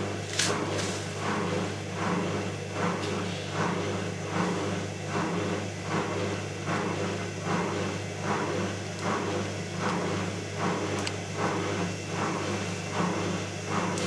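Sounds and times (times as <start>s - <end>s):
washing machine spin cycle: 0.0s - 14.0s.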